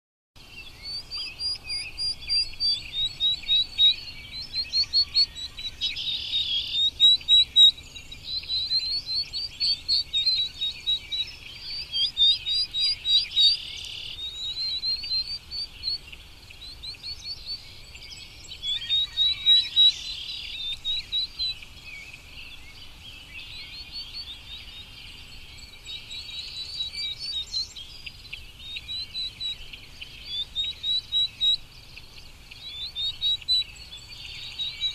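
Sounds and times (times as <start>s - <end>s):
bird chirping: 0.4s - 34.9s.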